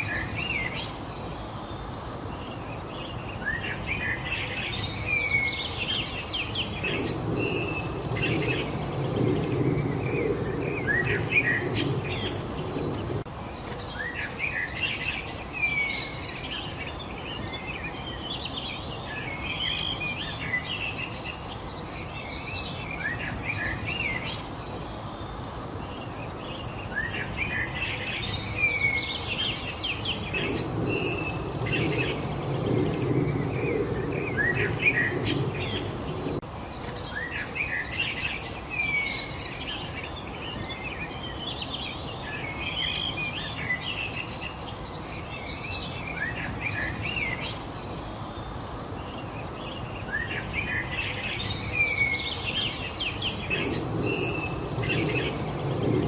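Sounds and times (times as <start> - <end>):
songbirds chirping and singing: 0.0 - 56.0
steady background hiss: 0.0 - 56.0.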